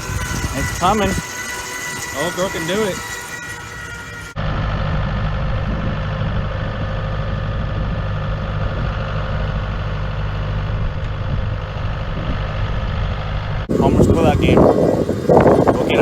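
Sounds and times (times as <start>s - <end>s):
vehicle engine idling: 3.0s - 16.0s.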